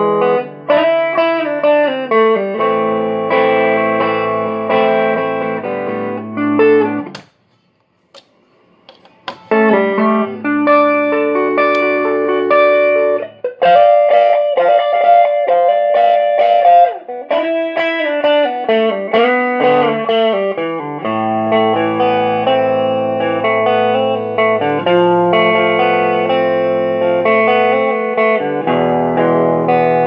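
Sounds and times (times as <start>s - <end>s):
electric guitar chords and notes: 0.0s - 7.4s, 8.7s - 30.0s.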